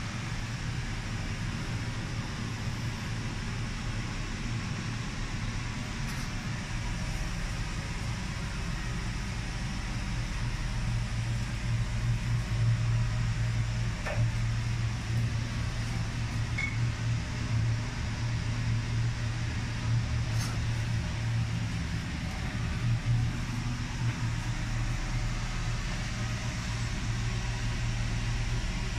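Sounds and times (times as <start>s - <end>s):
machine hum with air hiss: 0.0s - 28.9s.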